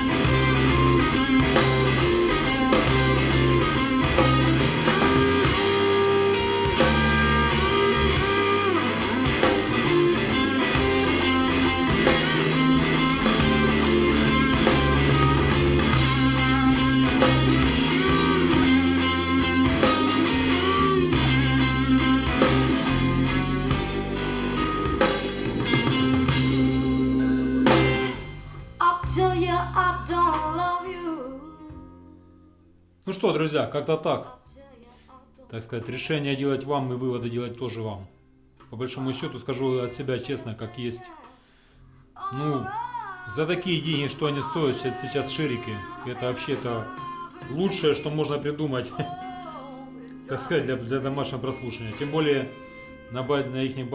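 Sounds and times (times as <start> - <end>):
blues-rock song over speakers: 0.0 - 32.4, 41.2 - 53.9.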